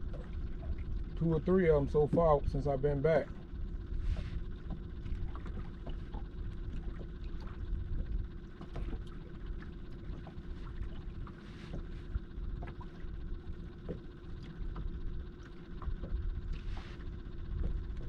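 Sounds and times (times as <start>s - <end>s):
steady low hum: 0.0s - 18.0s
waves slapping boat hull: 0.0s - 18.0s.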